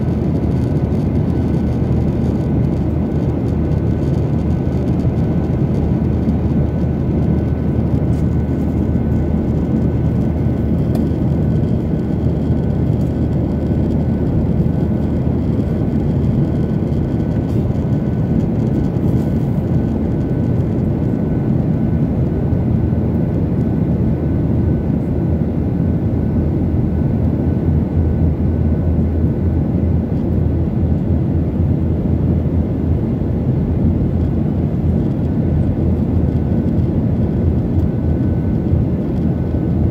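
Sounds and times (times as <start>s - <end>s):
airliner engines and airflow rush: 0.0s - 39.9s.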